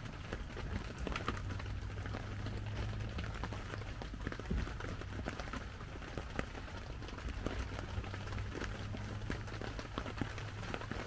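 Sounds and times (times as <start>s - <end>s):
low steady hum: 0.0s - 11.0s
rain pattering on a tent: 0.0s - 11.0s.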